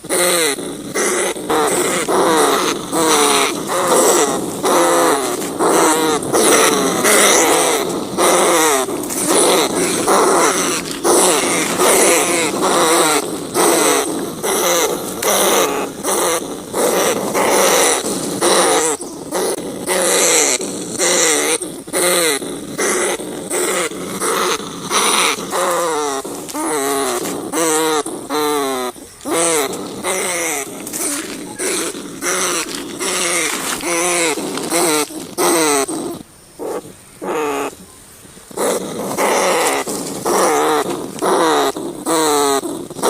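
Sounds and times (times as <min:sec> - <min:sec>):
rats squealing: 0:00.0 - 0:37.8, 0:38.5 - 0:43.0.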